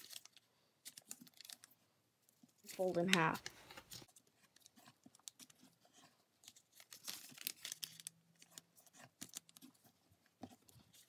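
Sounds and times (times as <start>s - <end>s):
paper rustling and crinkling: 0.0s - 1.8s, 2.5s - 11.0s.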